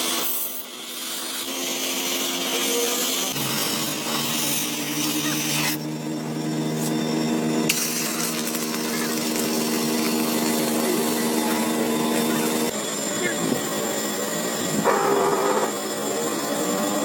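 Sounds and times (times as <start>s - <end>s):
power tool running: 0.0s - 17.0s.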